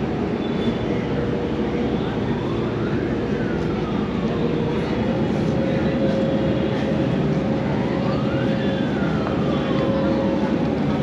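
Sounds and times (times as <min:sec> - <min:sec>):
ferry engine drone: 0:00.0 - 0:11.0.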